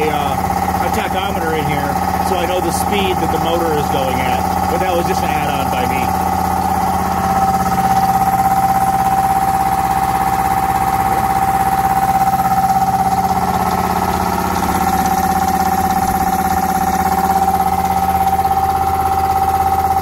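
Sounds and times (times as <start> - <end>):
air compressor pulsing: 0.0 - 20.0
motor whine: 0.0 - 20.0.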